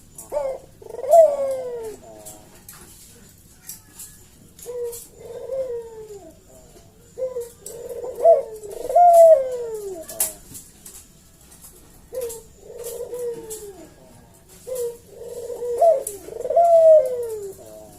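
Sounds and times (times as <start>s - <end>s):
dove cooing: 0.0s - 3.1s, 4.5s - 10.6s, 11.8s - 17.9s.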